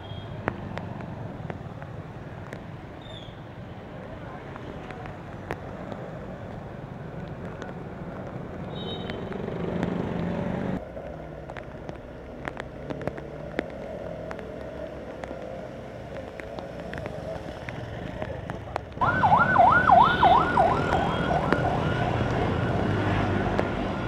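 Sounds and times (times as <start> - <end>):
vehicle engines running: 3.8 - 24.0.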